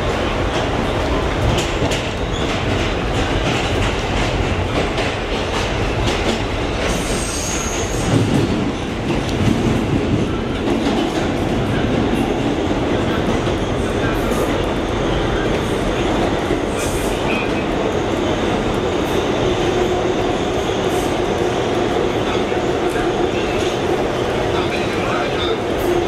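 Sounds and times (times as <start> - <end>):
subway car wheels rumbling: 0.0 - 26.0.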